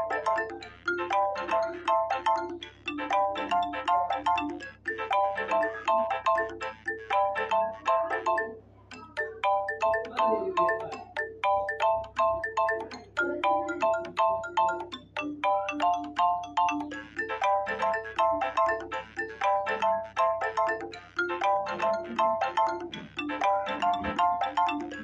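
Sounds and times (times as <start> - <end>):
smartphone ringtone melody: 0.0 - 25.0.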